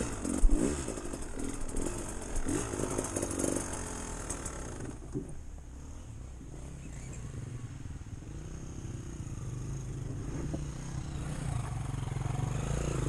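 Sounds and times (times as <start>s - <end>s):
dirt bike engine at low revs: 0.0s - 13.0s.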